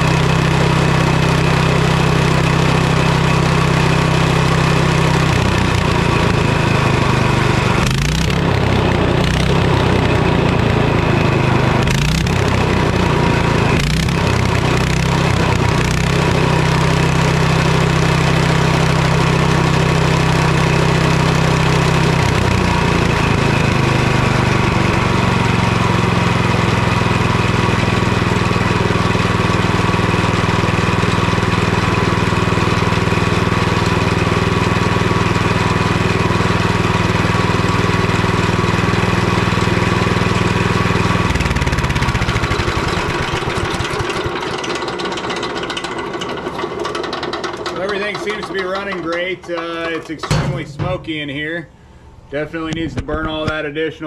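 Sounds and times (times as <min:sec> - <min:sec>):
small engine running: 0:00.0 - 0:50.4.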